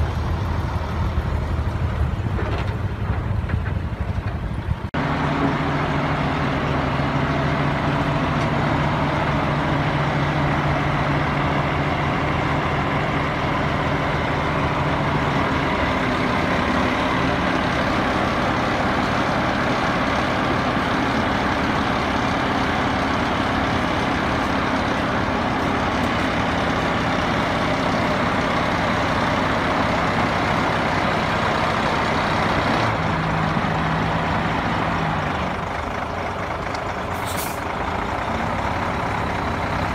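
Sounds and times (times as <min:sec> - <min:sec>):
dump truck diesel engines running: 0:00.0 - 0:39.9.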